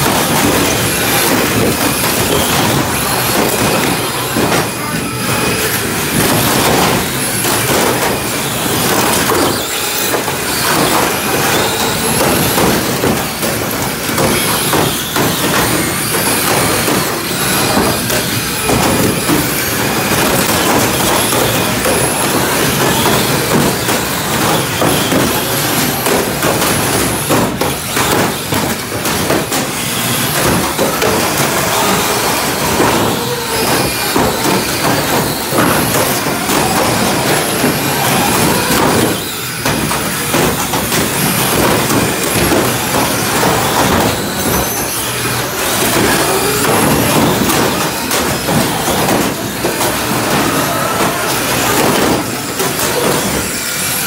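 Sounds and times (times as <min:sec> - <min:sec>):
plastic bodies clattering: 0:00.0 - 0:54.0
small wheels rumbling on boards: 0:00.0 - 0:54.0.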